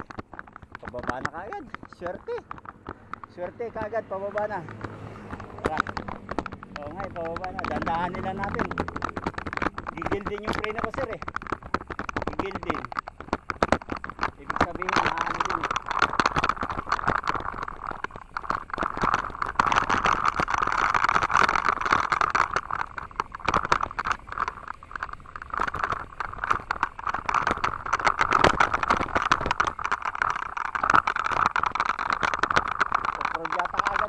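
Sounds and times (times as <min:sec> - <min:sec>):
bike rattling on gravel: 0:00.0 - 0:34.0
steady rushing noise: 0:00.0 - 0:34.0
tyres crunching over stones: 0:00.0 - 0:34.0.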